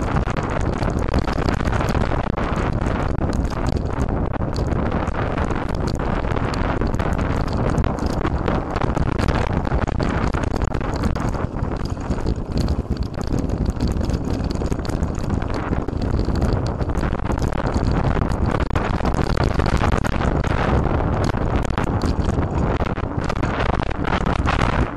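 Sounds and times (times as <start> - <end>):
wind on microphone: 0.0 - 24.9.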